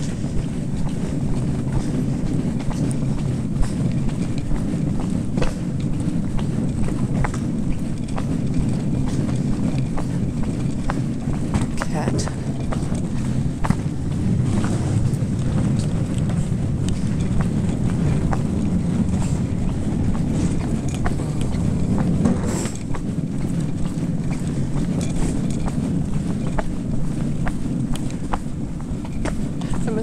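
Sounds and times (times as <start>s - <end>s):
footsteps on paved road: 0.0s - 30.0s
wind rumble on microphone: 0.0s - 30.0s.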